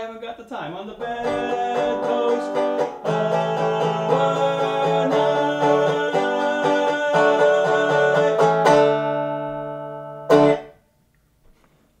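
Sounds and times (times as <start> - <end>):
resonator guitar playing: 1.0 - 10.8.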